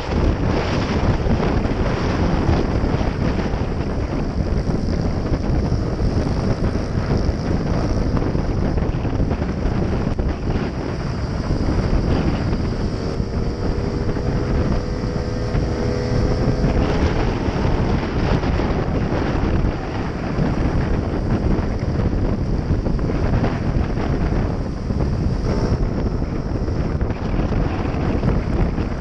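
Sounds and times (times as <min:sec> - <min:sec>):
scooter engine: 0:00.0 - 0:29.0
wind noise on microphone: 0:00.0 - 0:29.0.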